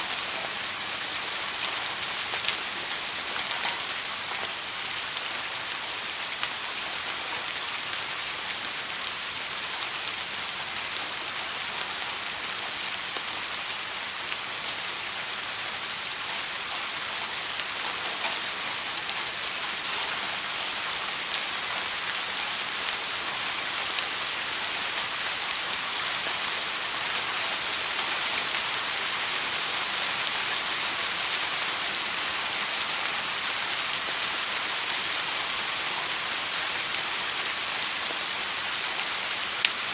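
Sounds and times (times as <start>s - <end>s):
soft rain pattering: 0.0s - 39.9s.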